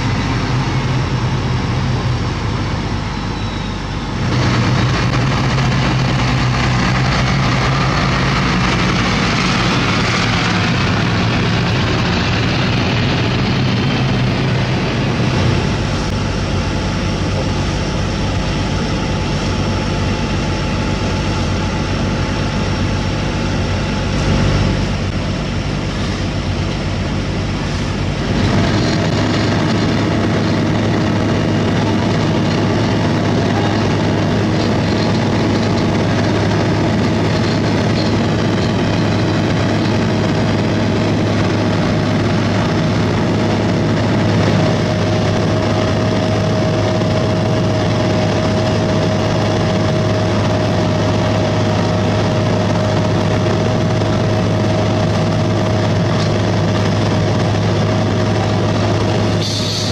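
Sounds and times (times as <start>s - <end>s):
diesel engine running: 0.0s - 59.9s
steady whine: 0.0s - 59.9s.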